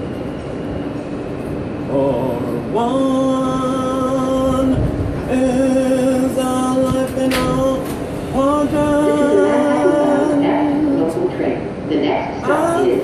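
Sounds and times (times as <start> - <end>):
subway car rumble: 0.0 - 13.0.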